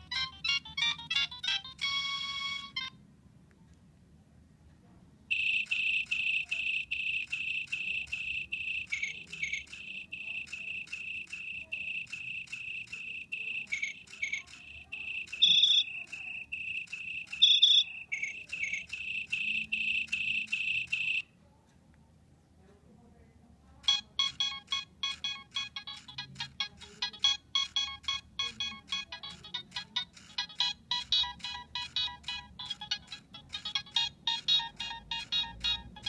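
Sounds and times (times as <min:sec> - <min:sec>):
mobile phone ringtone beeps: 0:00.0 - 0:02.9, 0:05.3 - 0:21.2, 0:23.9 - 0:36.0
multi-pitch ringtone: 0:00.0 - 0:02.9, 0:05.3 - 0:21.3, 0:23.9 - 0:36.0.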